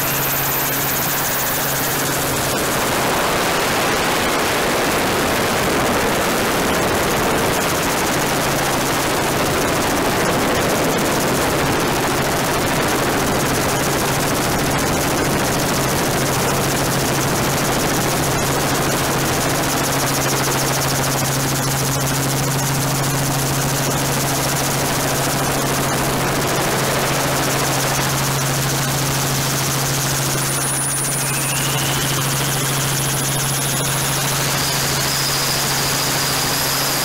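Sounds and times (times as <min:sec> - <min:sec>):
helicopter rotor and turbine drone: 0:00.0 - 0:37.0.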